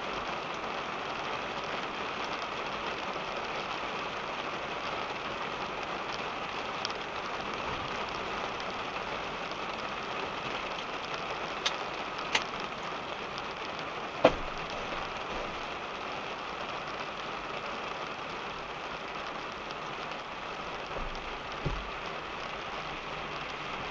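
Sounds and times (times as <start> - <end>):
rain on a car roof: 0.0 - 23.9.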